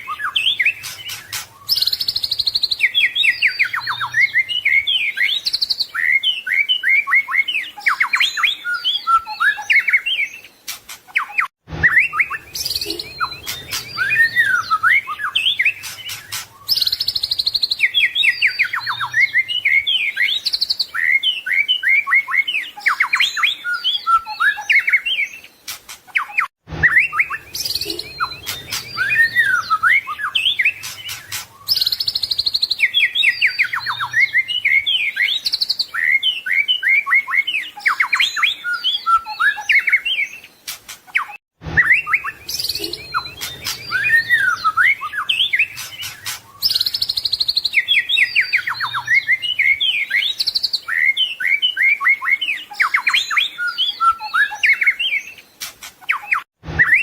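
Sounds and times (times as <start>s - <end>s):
songbird singing trills and whistles: 0.0s - 57.0s.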